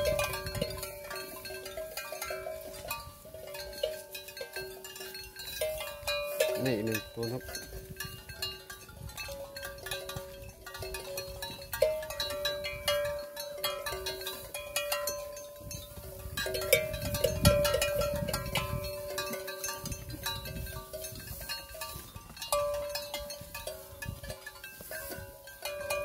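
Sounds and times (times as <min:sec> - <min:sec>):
cow bells clanking: 0:00.0 - 0:26.0.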